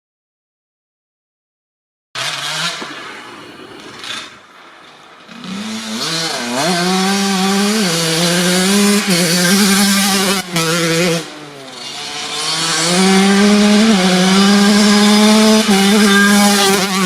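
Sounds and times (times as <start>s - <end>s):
dirt bike engine revving: 2.2s - 17.0s.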